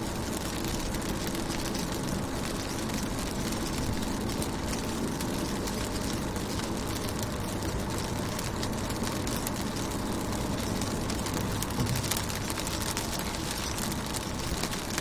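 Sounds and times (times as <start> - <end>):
constant low rumble: 0.0 - 15.0
rain pattering on car window: 0.0 - 15.0.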